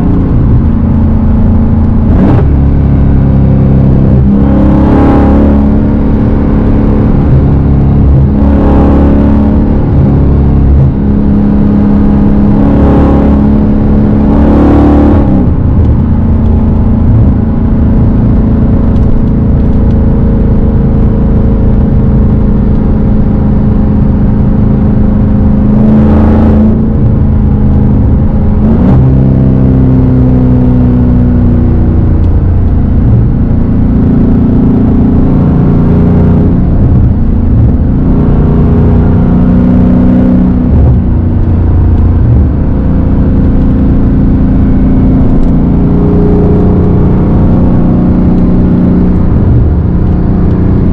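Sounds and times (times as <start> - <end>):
loud car engine revving: 0.0 - 50.9.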